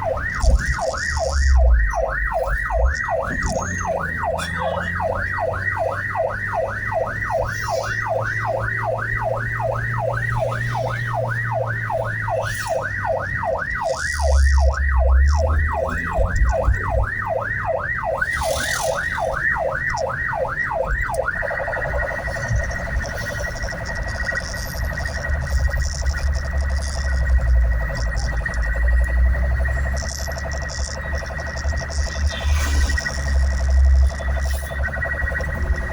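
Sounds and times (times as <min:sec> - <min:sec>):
electronic siren sweeping: 0:00.0 - 0:35.9
vehicle engine rumble: 0:00.0 - 0:35.9.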